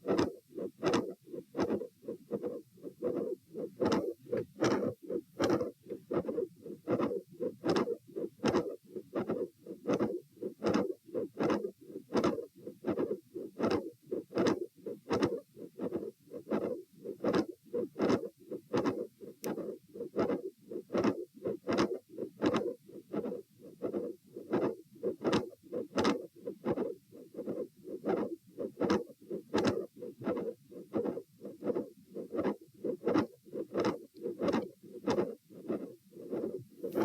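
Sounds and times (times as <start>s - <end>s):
heartbeat through stethoscope: 0.0s - 37.0s.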